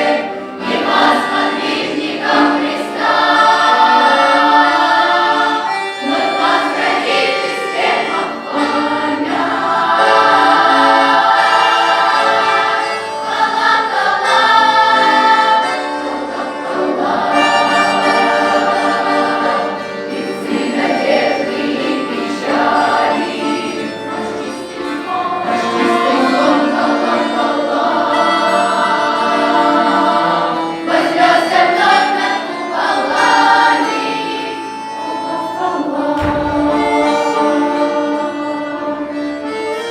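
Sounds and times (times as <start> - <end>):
choir singing folk song: 0.0 - 39.9.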